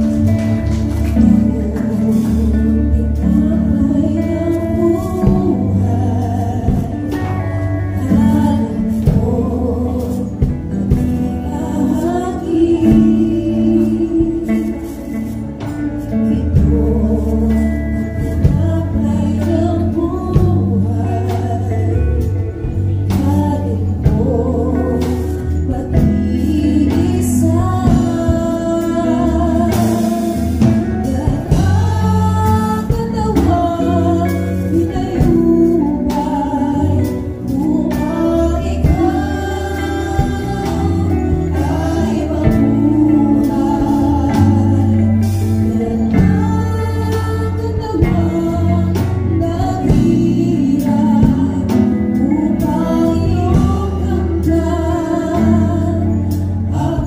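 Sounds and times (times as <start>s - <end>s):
live gospel band playing: 0.0s - 57.0s
woman singing into a microphone: 0.0s - 57.0s.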